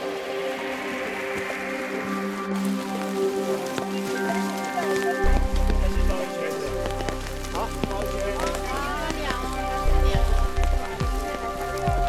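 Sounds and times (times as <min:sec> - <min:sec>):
background music of long held notes: 0:00.0 - 0:12.0.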